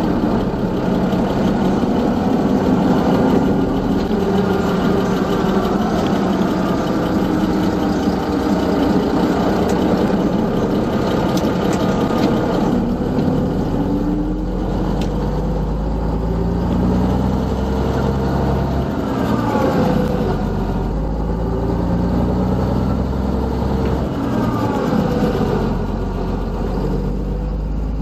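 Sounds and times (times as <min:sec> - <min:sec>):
truck diesel engine pulling: 0:00.0 - 0:28.0.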